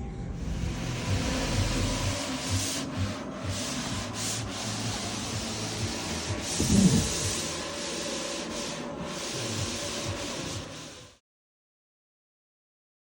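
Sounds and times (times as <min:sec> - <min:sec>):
squeegee scraping over film: 0:00.5 - 0:11.0.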